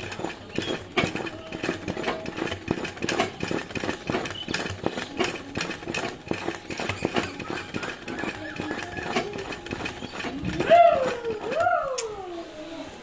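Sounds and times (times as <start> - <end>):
sewing machine needle clattering: 0.0 - 11.6.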